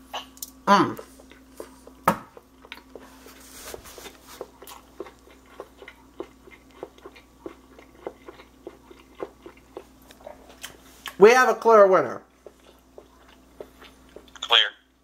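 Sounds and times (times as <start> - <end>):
chewing crispy fried chicken: 0.2 - 11.2, 12.2 - 14.9.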